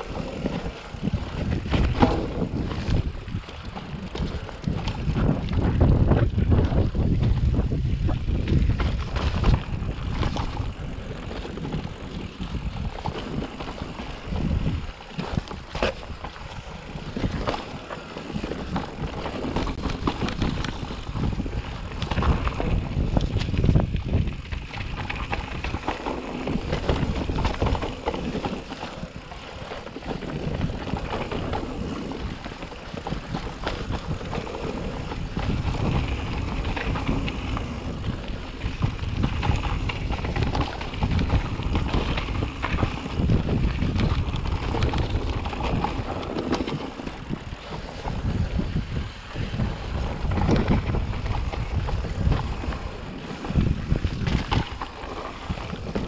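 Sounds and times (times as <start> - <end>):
gusty wind buffeting microphone: 0.0 - 56.0.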